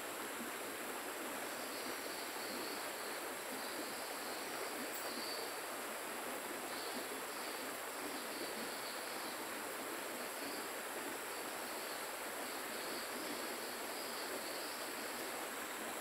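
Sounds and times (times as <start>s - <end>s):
flowing river water: 0.0s - 16.0s
insect chorus: 0.0s - 16.0s.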